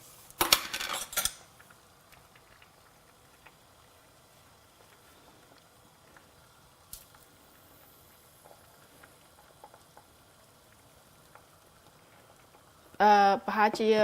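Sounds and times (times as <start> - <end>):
pot simmering faintly: 1.2 - 14.0.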